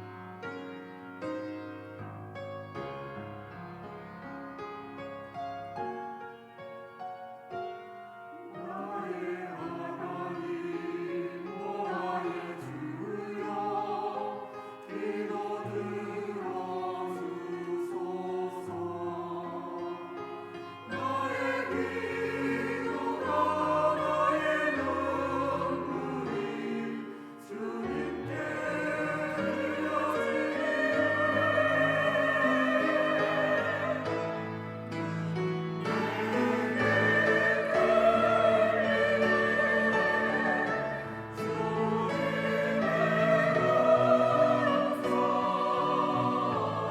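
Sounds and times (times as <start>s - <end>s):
choir singing in parts: 8.5s - 46.9s.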